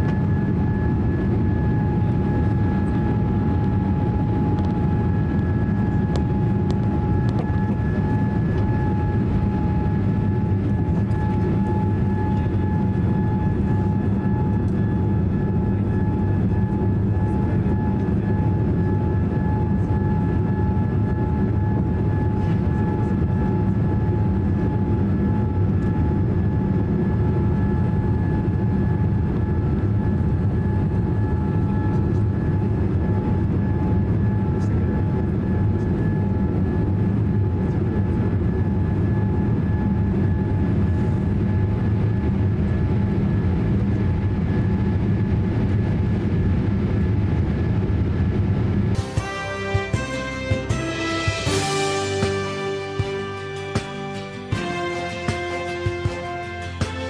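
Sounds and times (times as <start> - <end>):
high whine: 0.0 - 42.4, 48.2 - 57.0
jet engine roar: 0.0 - 57.0.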